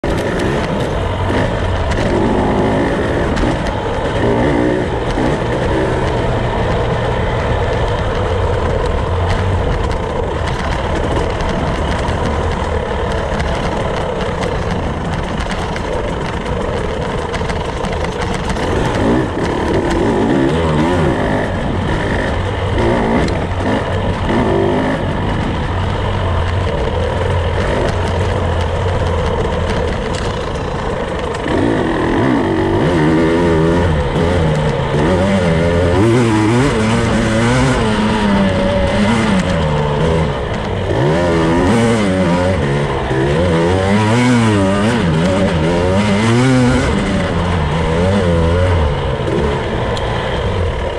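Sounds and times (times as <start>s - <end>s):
two-stroke motorcycle engine: 0.0s - 50.9s.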